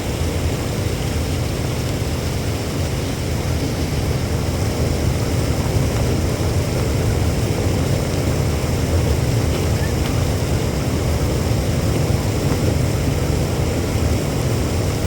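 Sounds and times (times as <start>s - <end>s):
heavy rain: 0.0s - 15.0s
wind buffeting microphone: 0.1s - 15.0s.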